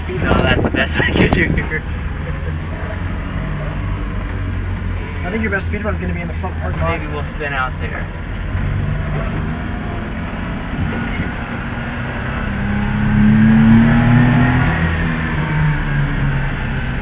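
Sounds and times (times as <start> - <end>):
small truck engine revving: 0.0 - 17.0.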